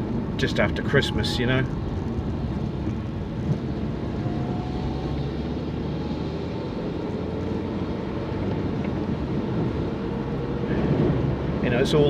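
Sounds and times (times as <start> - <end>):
car driving heard from cabin: 0.0 - 12.0.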